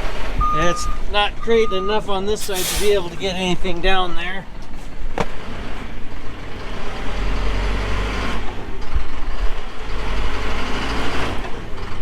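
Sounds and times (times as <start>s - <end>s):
truck engine revving: 0.0s - 4.1s, 5.2s - 12.0s.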